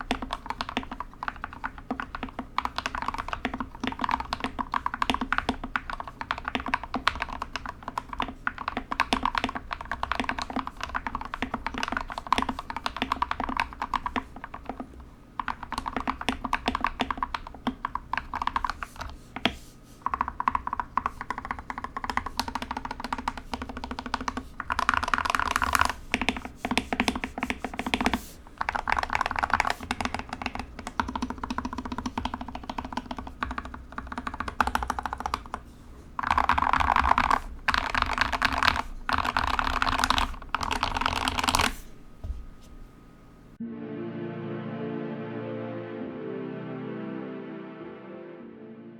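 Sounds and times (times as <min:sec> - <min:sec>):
mechanical keyboard typing: 0:00.0 - 0:41.8.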